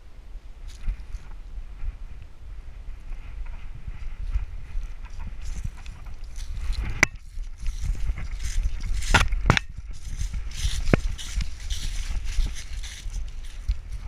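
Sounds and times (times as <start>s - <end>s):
grass rustling: 0.0s - 14.0s.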